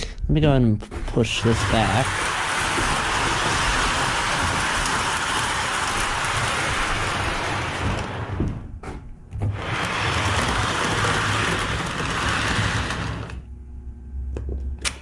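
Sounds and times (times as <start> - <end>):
low motor hum: 0.0 - 14.9.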